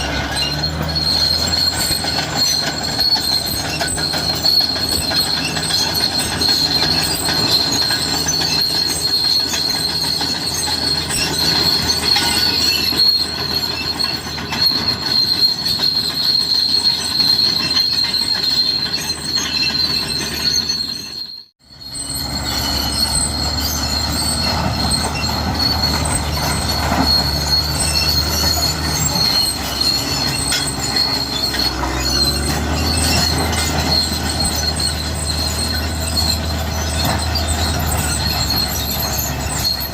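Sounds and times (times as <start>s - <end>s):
diesel engine hum: 0.0s - 16.0s, 21.6s - 39.9s
bulldozer tracks squealing and clanking: 0.0s - 39.9s.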